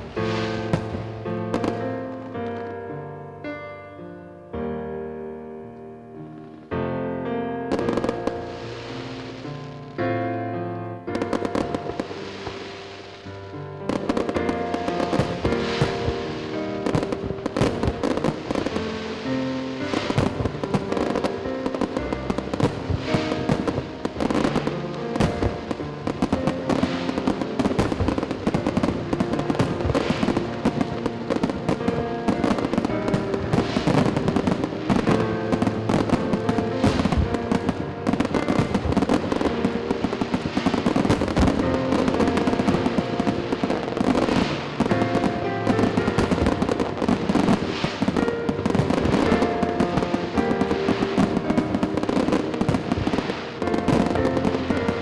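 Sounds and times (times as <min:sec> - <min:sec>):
fireworks bursting and crackling: 0:00.0 - 0:03.6, 0:07.6 - 0:55.0
music with sustained notes: 0:00.0 - 0:55.0.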